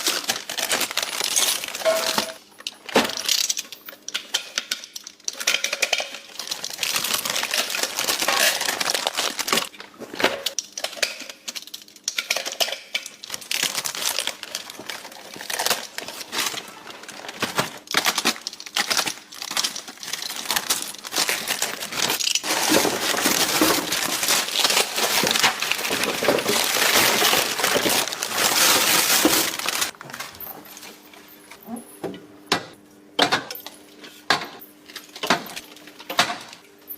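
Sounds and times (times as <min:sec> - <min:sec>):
plastic bags crinkling: 0:00.0 - 0:04.0, 0:05.0 - 0:10.9, 0:11.5 - 0:31.4.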